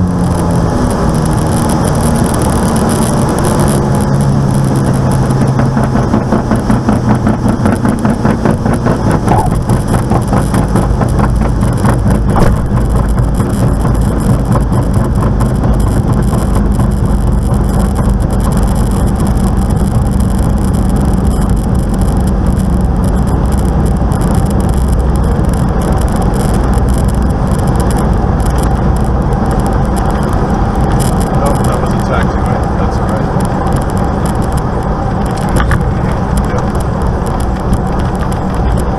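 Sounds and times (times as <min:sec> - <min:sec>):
piston aircraft engine pulsing: 0:00.0 - 0:38.9.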